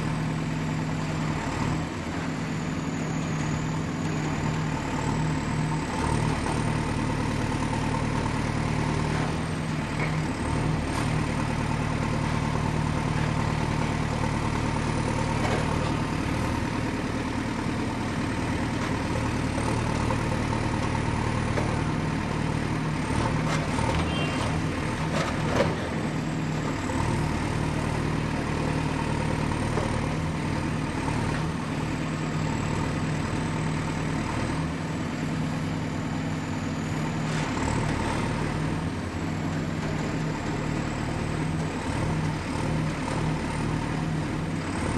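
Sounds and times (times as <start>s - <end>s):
excavator diesel engine humming: 0.0s - 44.9s.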